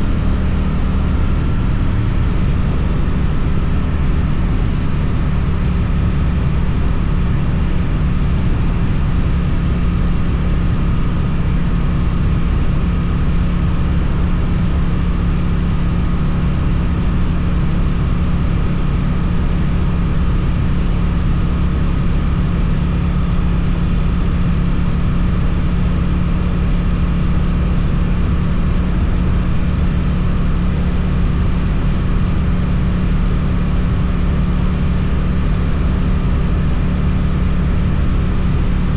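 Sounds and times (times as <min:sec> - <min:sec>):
motorcycle engine at steady speed: 0:00.0 - 0:38.9.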